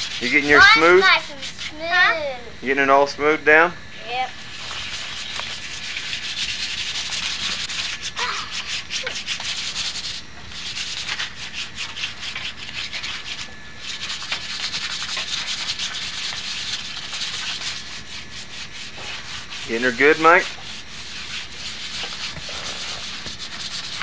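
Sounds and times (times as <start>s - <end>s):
sandpaper rasping on wood: 0.0s - 2.2s, 4.4s - 24.0s.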